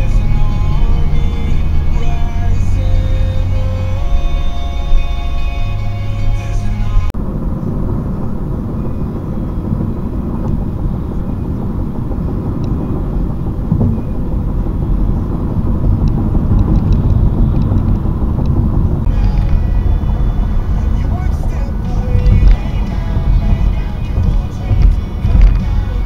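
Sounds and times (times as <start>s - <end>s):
car cabin road and engine rumble: 0.0s - 26.0s.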